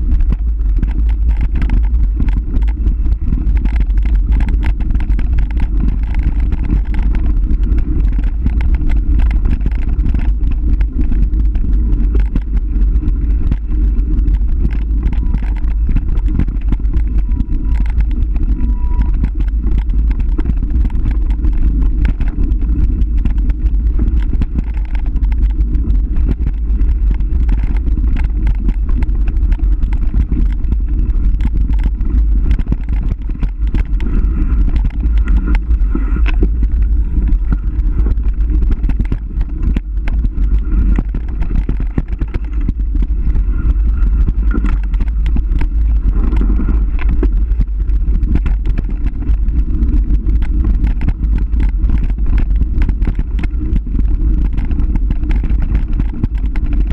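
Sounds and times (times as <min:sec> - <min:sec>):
rattling clatter: 0:00.0 - 0:56.9
wind rumble on microphone: 0:00.0 - 0:56.9.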